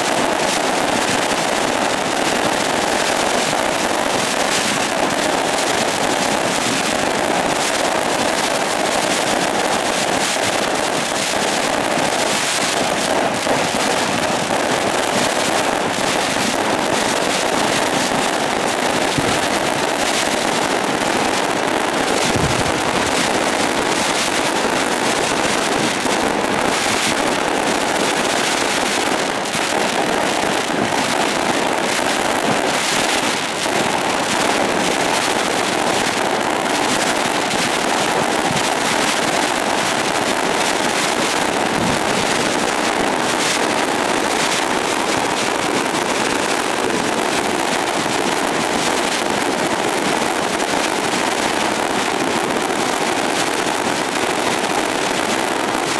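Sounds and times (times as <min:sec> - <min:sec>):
fireworks crackling and popping: 0:00.0 - 0:55.9.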